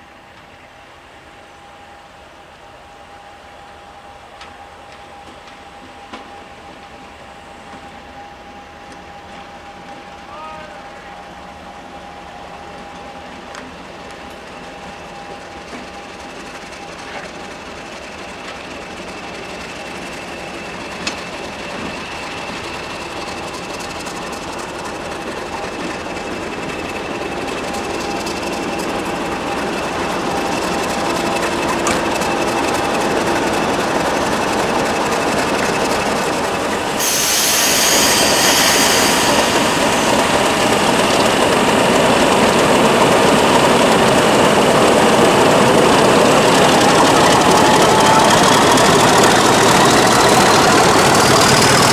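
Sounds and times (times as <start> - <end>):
diesel locomotive approaching: 0.0 - 51.9.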